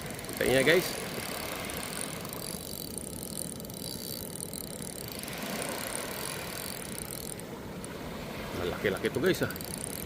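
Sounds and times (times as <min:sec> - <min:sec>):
fishing reel rattling whir: 0:00.0 - 0:10.0.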